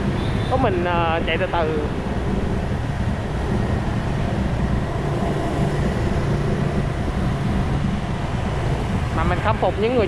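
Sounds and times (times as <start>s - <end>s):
motorbikes passing: 0.0s - 10.0s
scooter engine humming: 0.0s - 10.0s
wind and road noise: 0.0s - 10.0s.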